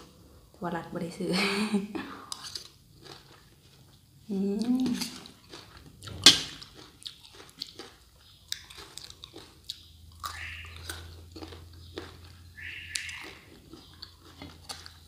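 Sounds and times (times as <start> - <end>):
wet chewing with crunching: 2.2 - 15.0.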